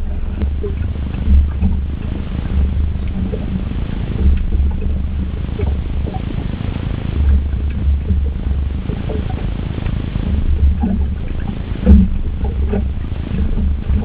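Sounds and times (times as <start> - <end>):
outboard motor rumbling: 0.0 - 14.0
wind buffeting microphone: 0.0 - 14.0.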